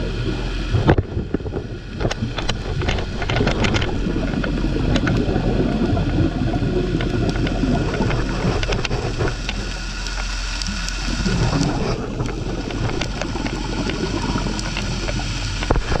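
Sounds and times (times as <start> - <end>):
diver's exhaled air bubbling: 0.0 - 16.0
steady low hum: 0.0 - 16.0.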